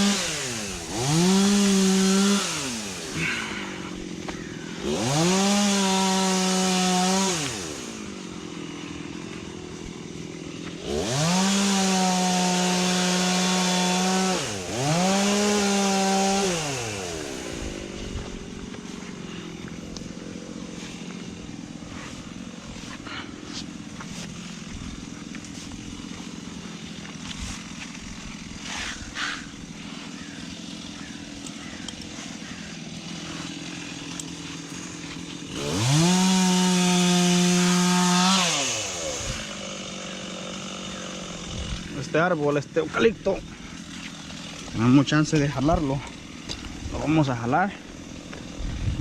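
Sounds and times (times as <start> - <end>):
chainsaw revving and idling: 0.0 - 49.0.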